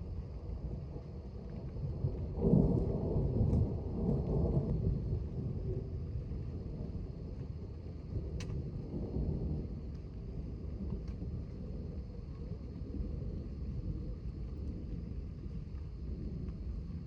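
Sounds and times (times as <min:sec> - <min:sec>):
rolling thunder: 0:00.0 - 0:17.0.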